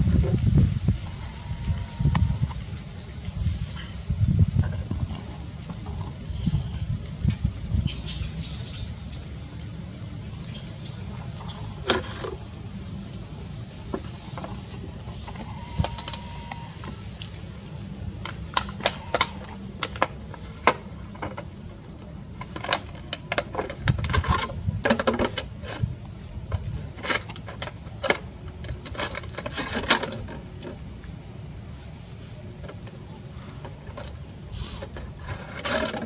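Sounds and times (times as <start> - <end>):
steady low rumble: 0.0 - 29.5.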